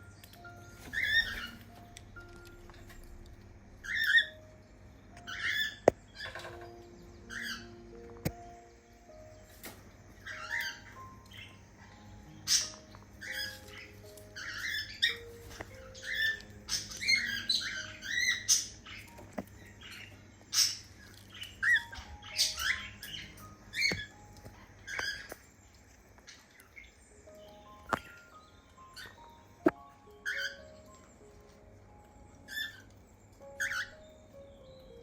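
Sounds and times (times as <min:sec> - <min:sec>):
soft background music: 0:00.0 - 0:35.0
cockatiels chirping and squawking: 0:00.3 - 0:03.1, 0:03.8 - 0:04.6, 0:05.2 - 0:08.4, 0:09.4 - 0:25.4, 0:26.2 - 0:34.8.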